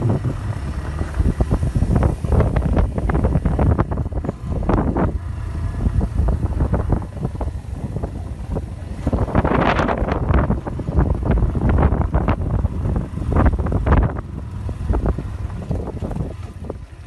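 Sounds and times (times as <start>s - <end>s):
vehicle rumble: 0.0s - 17.0s
wind buffeting microphone: 0.0s - 17.0s.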